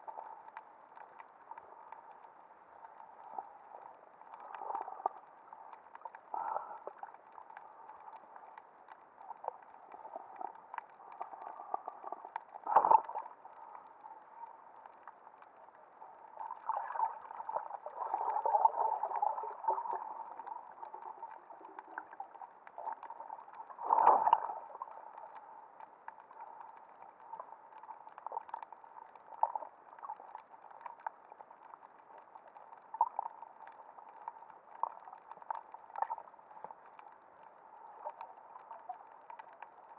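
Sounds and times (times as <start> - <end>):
faint clicks: 0.0 - 39.9
muffled underwater water hiss: 0.0 - 39.9.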